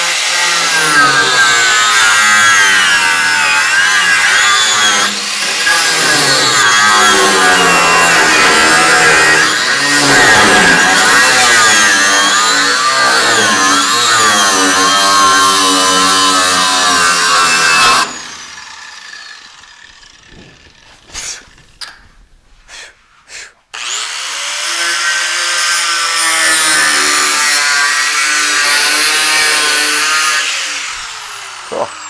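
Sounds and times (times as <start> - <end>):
angle grinder cutting metal: 0.0 - 21.0, 23.7 - 32.0.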